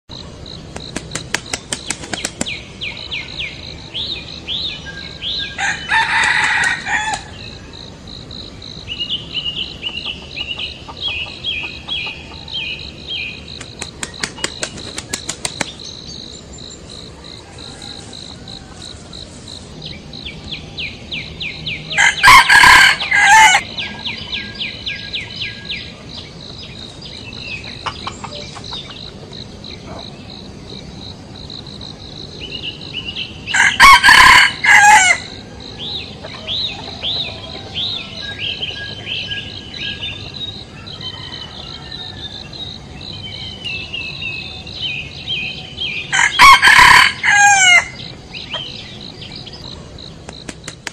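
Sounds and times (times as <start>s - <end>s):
birds chirping fast: 0.1s - 50.9s
loud bird calls: 0.1s - 50.9s.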